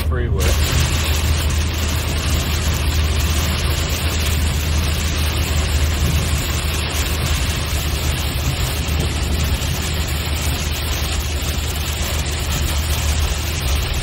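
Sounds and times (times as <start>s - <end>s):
road rumble: 0.0s - 14.0s
tyres hissing through water: 0.0s - 14.0s.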